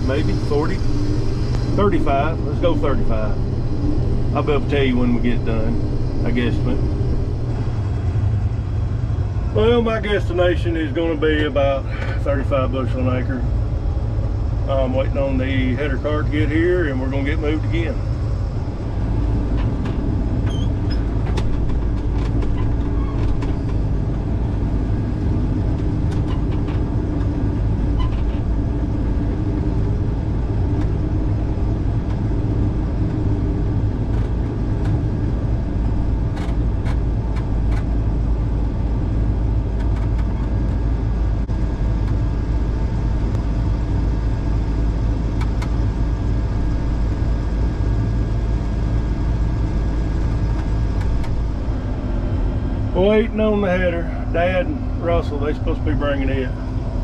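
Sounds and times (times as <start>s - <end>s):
combine engine running: 0.0s - 57.0s.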